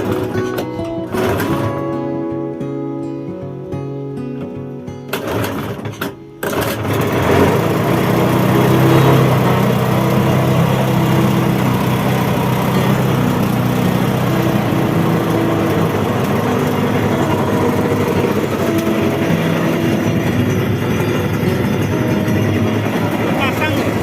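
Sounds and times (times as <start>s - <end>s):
small boat engine: 0.0s - 1.9s, 5.1s - 24.0s.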